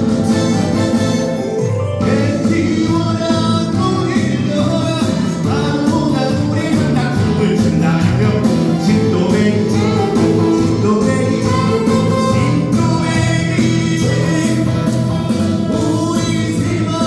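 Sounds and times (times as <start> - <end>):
amplified backing track: 0.0 - 17.0
man singing into microphone: 2.0 - 17.0.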